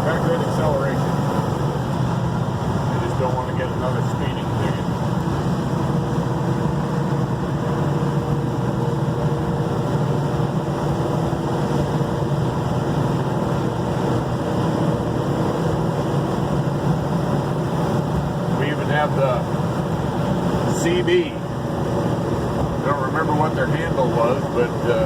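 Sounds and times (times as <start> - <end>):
car engine running: 0.0 - 25.0
road and wind noise: 0.0 - 25.0.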